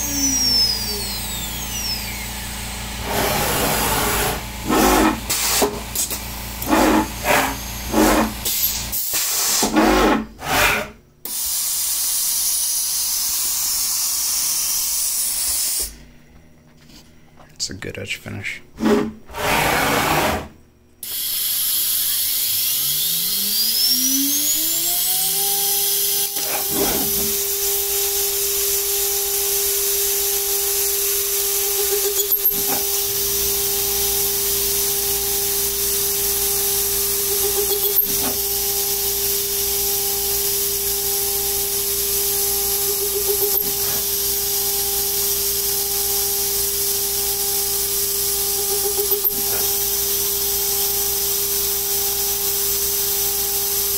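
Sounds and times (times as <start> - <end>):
router spindle whine: 0.0 - 8.9, 18.8 - 53.9
drill bit cutting metal: 0.0 - 15.9, 18.8 - 53.9.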